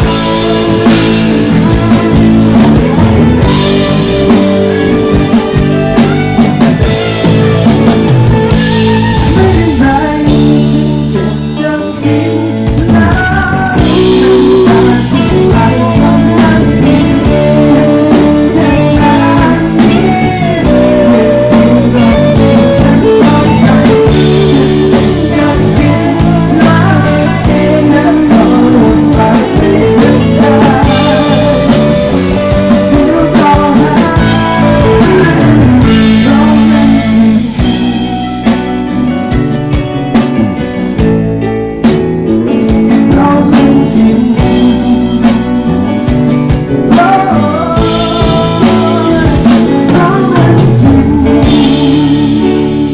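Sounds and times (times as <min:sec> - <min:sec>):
rock band music over pa: 0:00.0 - 0:52.9.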